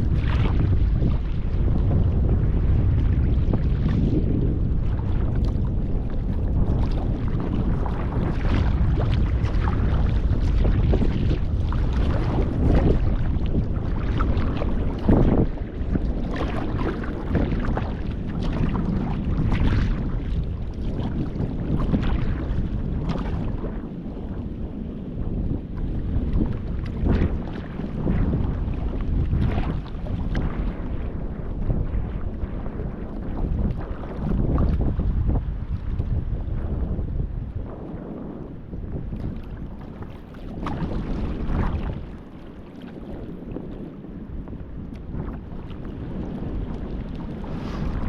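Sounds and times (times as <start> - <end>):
kayak paddle splashes: 0.0 - 37.0, 37.8 - 48.0
wind buffeting microphone: 0.0 - 48.0.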